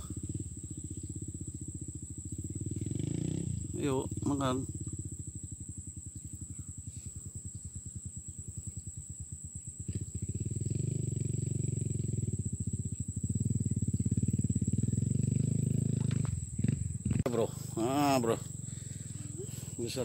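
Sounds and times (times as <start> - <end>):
small engine puttering: 0.0 - 7.6, 9.4 - 20.0.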